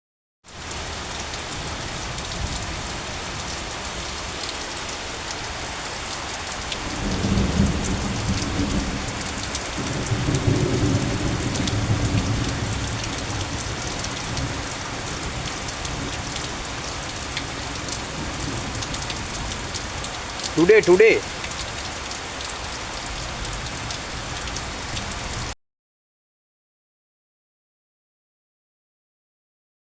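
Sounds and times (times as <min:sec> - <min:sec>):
rain falling: 0:00.5 - 0:25.6.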